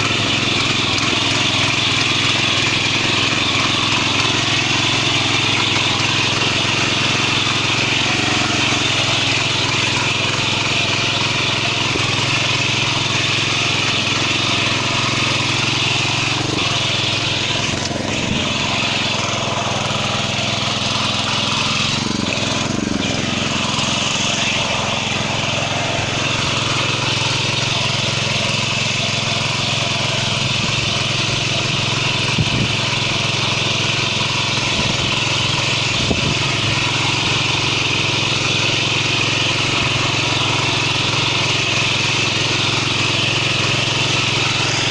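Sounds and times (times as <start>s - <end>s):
power weeder engine under load: 0.0s - 44.9s
tines churning soil: 0.0s - 44.9s.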